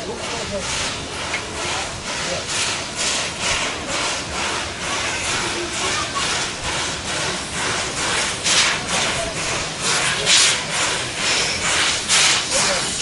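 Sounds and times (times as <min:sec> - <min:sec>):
steam locomotive exhaust chuffing: 0:00.0 - 0:13.0.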